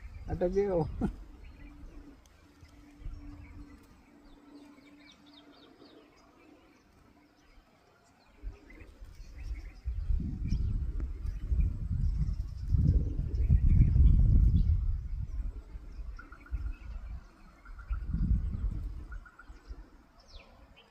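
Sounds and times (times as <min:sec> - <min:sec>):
small birds chirping: 0:00.0 - 0:20.9
steady low hum: 0:00.0 - 0:20.9.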